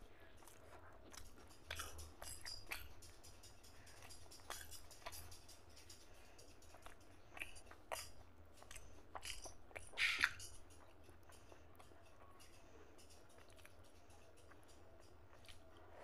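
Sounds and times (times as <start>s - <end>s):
wet chewing and lip smacks: 0.2s - 16.0s.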